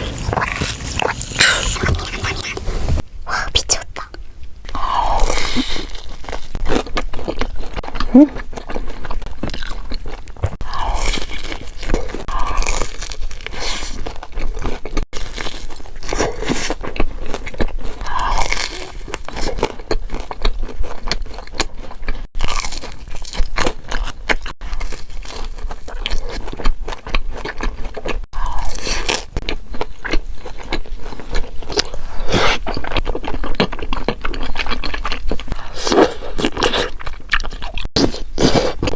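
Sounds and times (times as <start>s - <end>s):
crunchy chewing of food: 0.0s - 3.0s, 4.0s - 38.9s.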